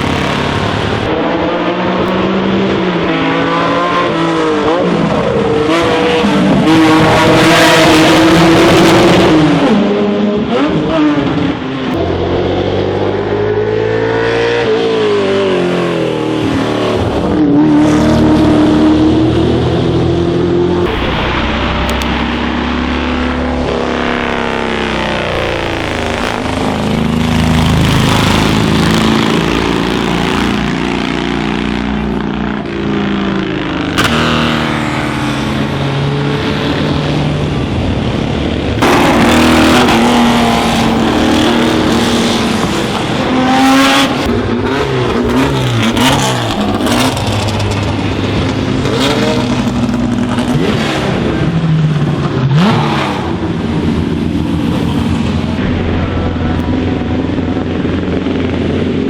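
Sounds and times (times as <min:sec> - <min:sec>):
racing car engines accelerating: 0:00.0 - 0:59.0.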